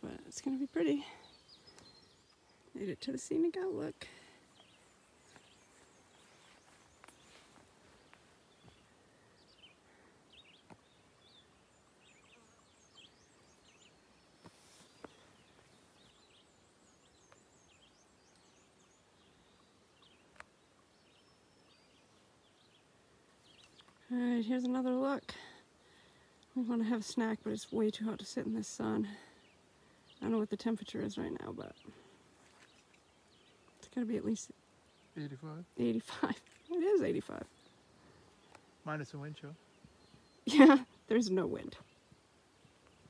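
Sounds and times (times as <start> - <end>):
faint bird chirps and trills: 0.0 - 43.0.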